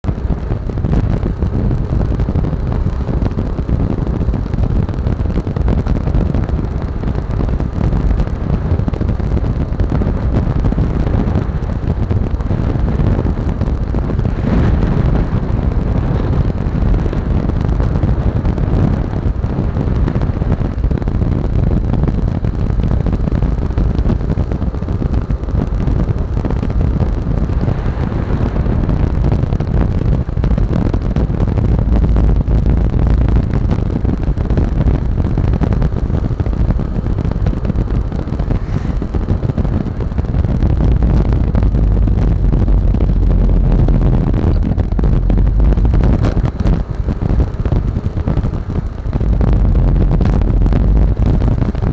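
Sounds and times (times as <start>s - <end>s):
wind buffeting microphone: 0.0s - 51.9s
scooter engine running: 0.1s - 51.9s.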